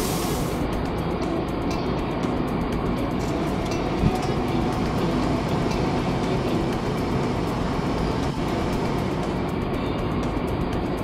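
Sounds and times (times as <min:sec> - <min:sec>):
car-wash machine rumbling and hissing: 0:00.0 - 0:11.0.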